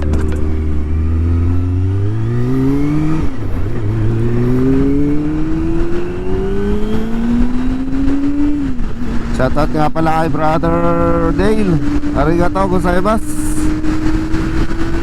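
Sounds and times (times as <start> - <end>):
motorcycle engine accelerating hard: 0.0 - 15.0.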